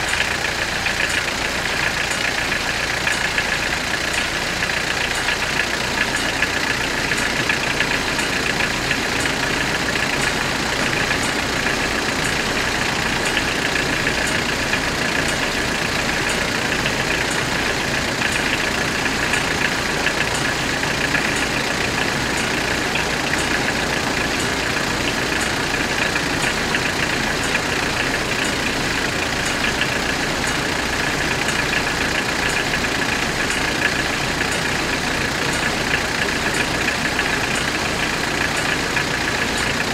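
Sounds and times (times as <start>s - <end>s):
level crossing warning bells: 1.1s - 39.9s.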